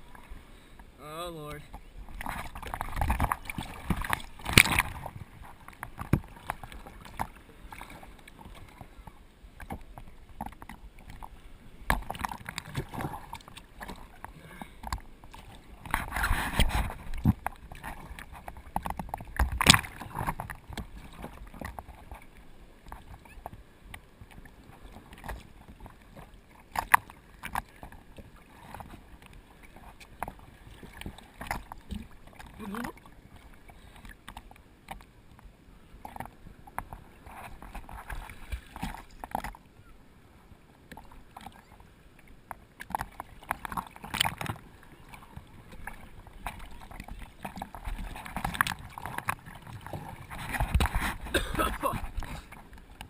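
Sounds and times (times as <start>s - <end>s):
seawater sloshing and splashing: 1.5s - 39.7s, 40.9s - 53.0s.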